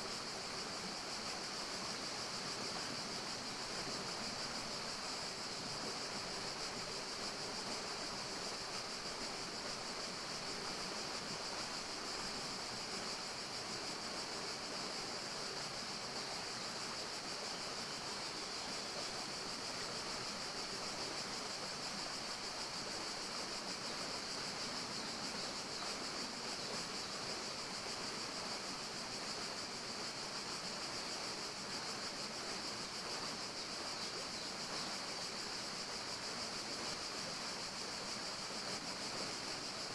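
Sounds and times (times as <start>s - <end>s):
forest ambience hiss: 0.0s - 39.9s.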